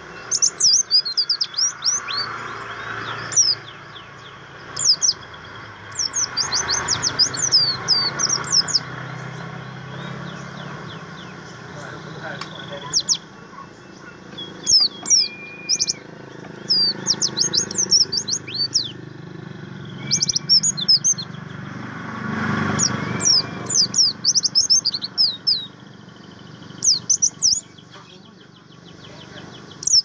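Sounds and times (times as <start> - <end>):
bird chirping song: 0.0 - 30.0.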